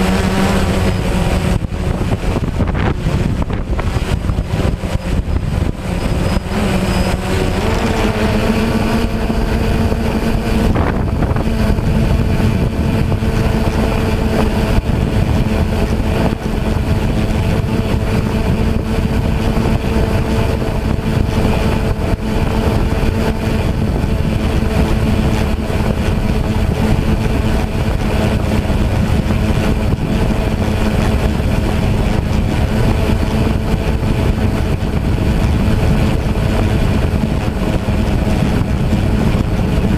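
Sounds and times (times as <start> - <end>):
drone propellers whining: 0.0 - 39.9
wind buffeting microphone: 0.0 - 39.9.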